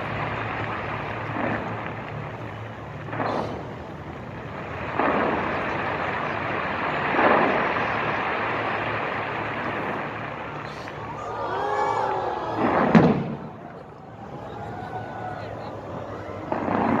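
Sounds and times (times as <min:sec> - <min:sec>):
fireworks booming: 0:00.0 - 0:11.3, 0:12.3 - 0:14.8, 0:16.4 - 0:17.0
fireworks display din: 0:00.0 - 0:17.0.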